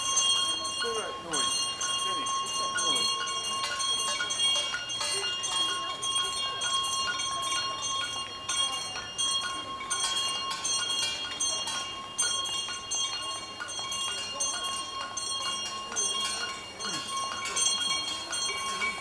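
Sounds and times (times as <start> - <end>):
steady high-pitched tones: 0.0 - 19.0.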